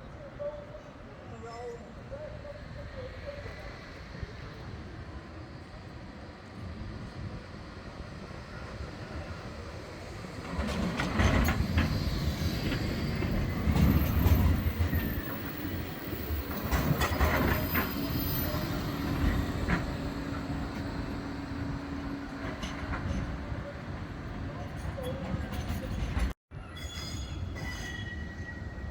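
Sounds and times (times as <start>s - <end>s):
tram wheels rumbling: 2.6s - 28.9s.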